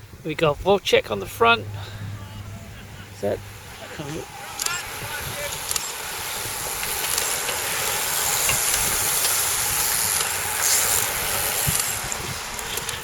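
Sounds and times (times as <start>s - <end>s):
bicycle tyres and freewheels hissing: 1.3s - 13.0s.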